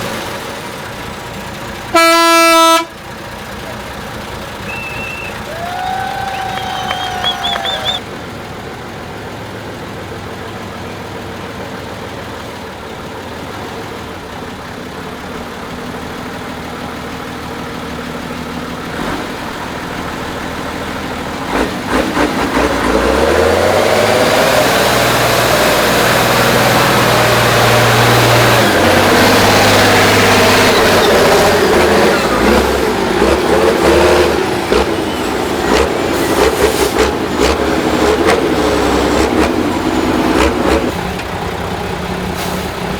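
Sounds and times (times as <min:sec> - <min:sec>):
truck diesel engine revving: 0:00.0 - 0:42.9.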